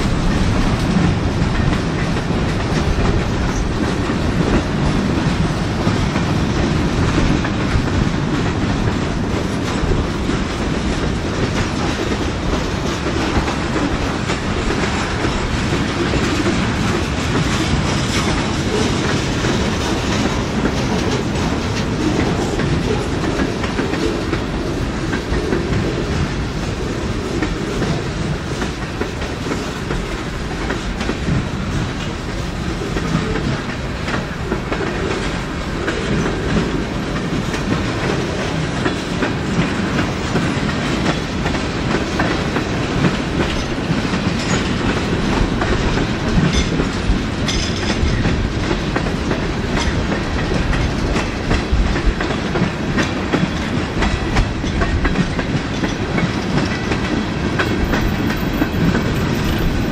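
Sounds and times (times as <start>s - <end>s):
train wheels rumbling on rail: 0.0s - 59.9s
wheels clacking over rail joints: 0.0s - 59.9s.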